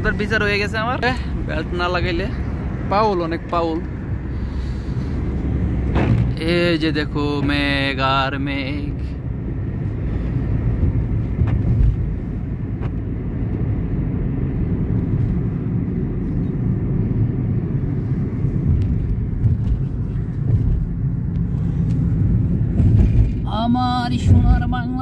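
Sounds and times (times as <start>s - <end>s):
car cabin road rumble: 0.0s - 25.0s.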